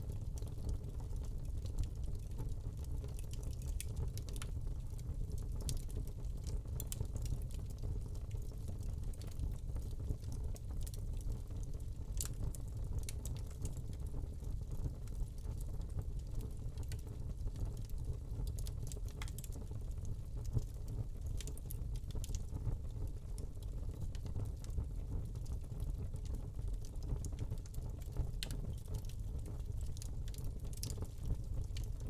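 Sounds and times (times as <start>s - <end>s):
fire crackling and popping: 0.1s - 32.0s
log fire burning: 0.2s - 32.0s.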